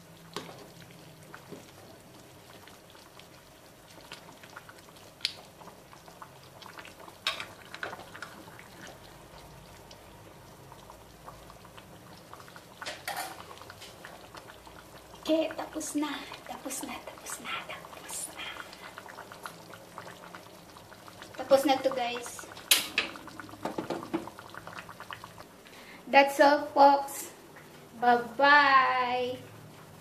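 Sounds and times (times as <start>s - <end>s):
stew simmering: 0.0s - 30.0s.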